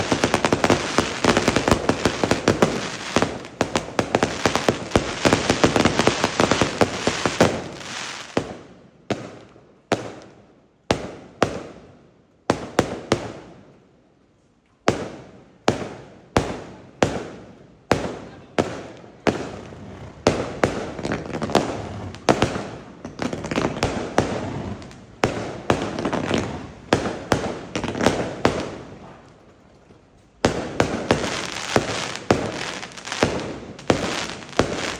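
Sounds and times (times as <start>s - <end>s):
fireworks bangs: 0.0s - 11.8s, 14.8s - 34.9s.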